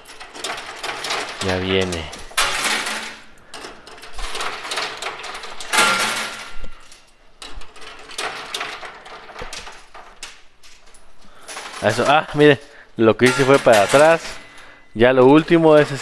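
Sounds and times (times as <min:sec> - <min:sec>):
metal coins clattering: 0:00.0 - 0:16.0.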